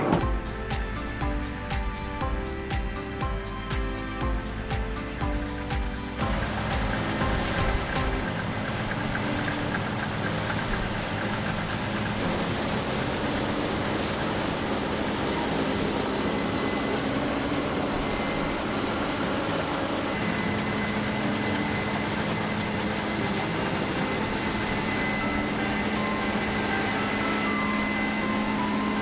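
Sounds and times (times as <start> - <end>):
combine harvester running: 0.0 - 29.0
high steady whine: 0.0 - 29.0.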